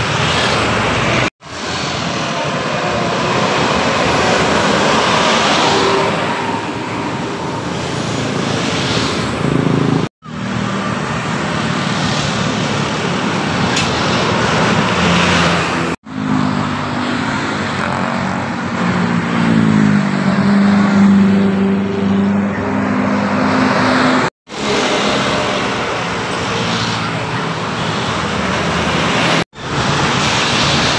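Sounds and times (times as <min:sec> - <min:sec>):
road traffic passing: 0:00.0 - 0:30.9.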